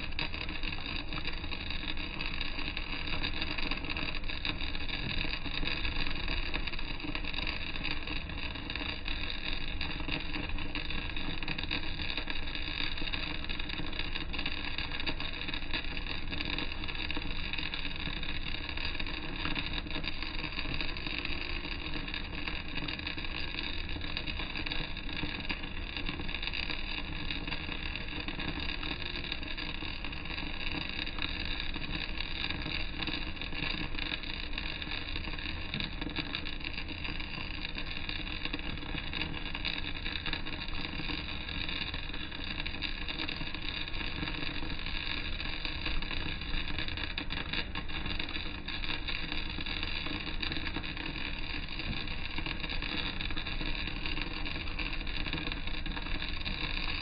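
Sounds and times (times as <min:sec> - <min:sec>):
arc welding crackling sizzle: 0:00.0 - 0:57.0.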